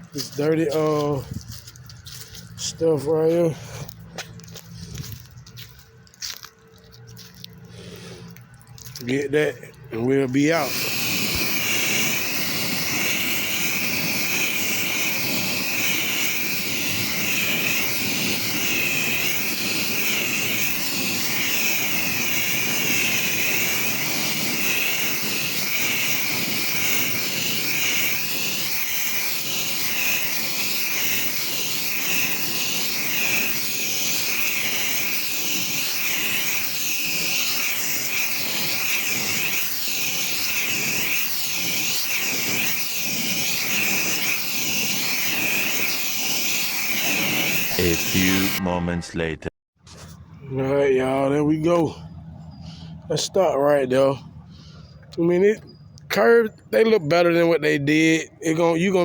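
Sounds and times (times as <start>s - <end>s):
pressure washer spray hissing: 0.0s - 6.3s, 7.1s - 48.6s.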